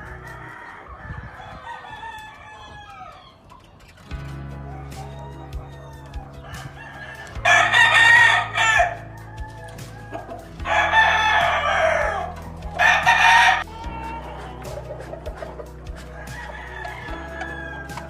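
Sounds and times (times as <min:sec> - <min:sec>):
rooster crowing: 0:00.0 - 0:03.5, 0:04.4 - 0:18.0.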